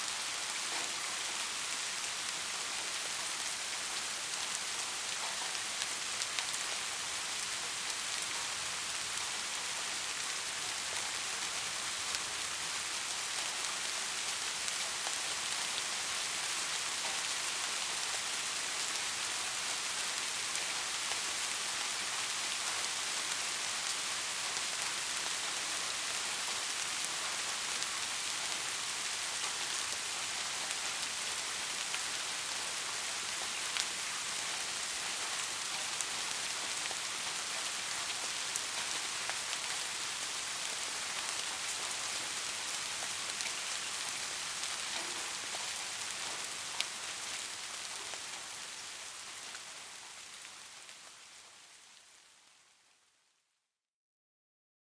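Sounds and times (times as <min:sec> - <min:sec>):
steady rain hiss: 0:00.0 - 0:53.4.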